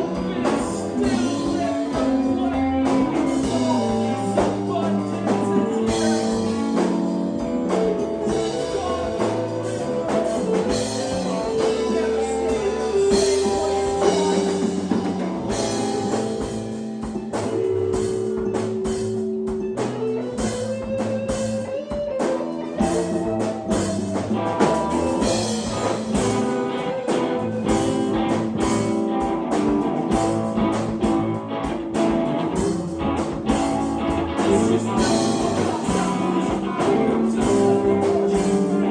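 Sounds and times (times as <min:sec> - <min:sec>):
bass guitar: 0:00.0 - 0:38.9
drum kit beat: 0:00.0 - 0:38.9
electric guitar lead lines: 0:00.0 - 0:38.9.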